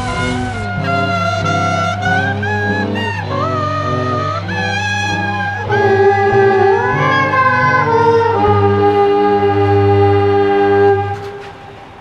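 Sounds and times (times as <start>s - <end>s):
wind instruments from plastic pipes: 0.0s - 12.0s.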